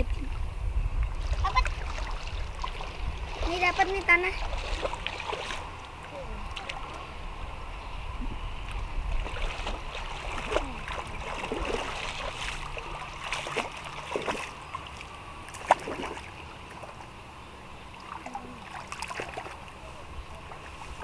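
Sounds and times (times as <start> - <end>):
muddy water splashing: 1.1 - 21.0.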